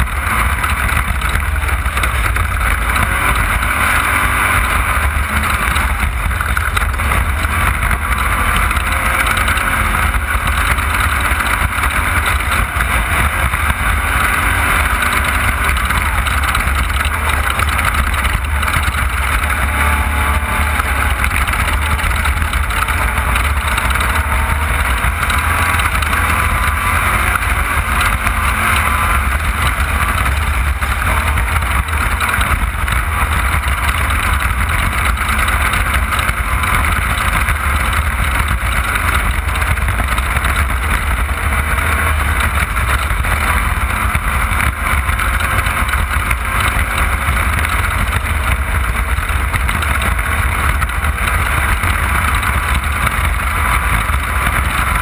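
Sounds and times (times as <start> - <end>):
heavy low rumble: 0.0 - 55.0
race car engine drone: 0.0 - 55.0.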